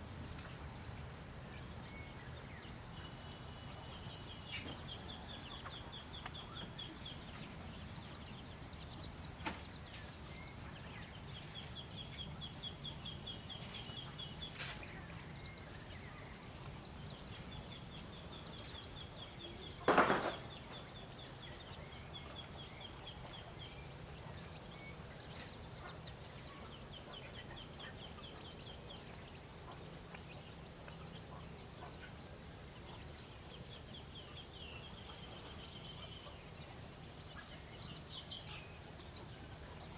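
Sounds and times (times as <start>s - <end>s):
outdoor ambience: 0.0s - 39.9s.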